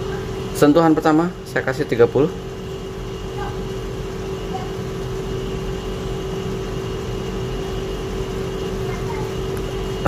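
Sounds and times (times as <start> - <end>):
steady low background hum: 0.0 - 10.0.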